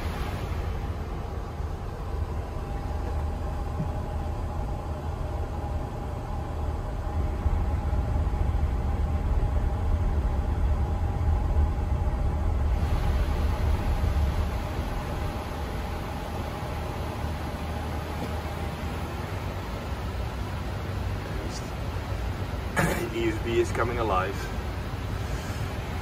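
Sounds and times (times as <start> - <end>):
low rumble with faint hum: 0.0 - 26.0.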